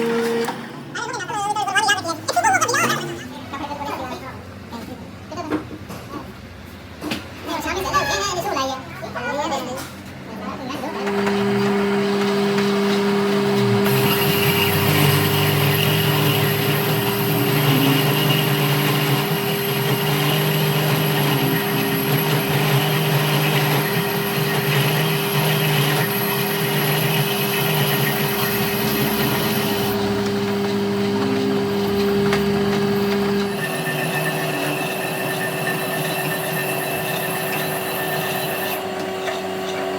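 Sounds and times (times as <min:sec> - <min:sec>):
workshop machine running: 0:00.0 - 0:39.9.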